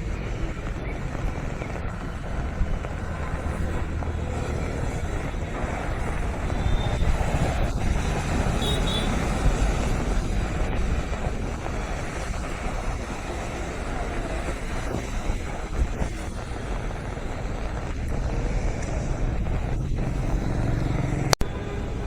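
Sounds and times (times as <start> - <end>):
road traffic rumble: 0.0 - 22.0
wind buffeting microphone: 0.0 - 22.0.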